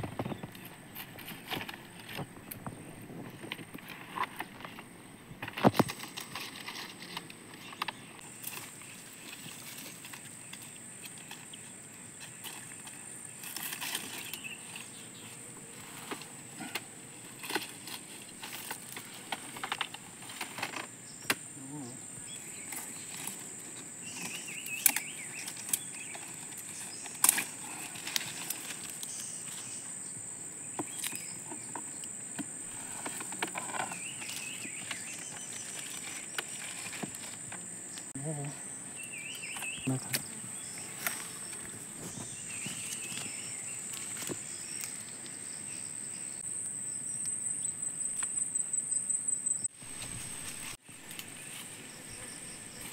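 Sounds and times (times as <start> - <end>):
leaves rustling: 0.0 - 47.3, 49.7 - 52.9
high insect drone: 0.0 - 52.9.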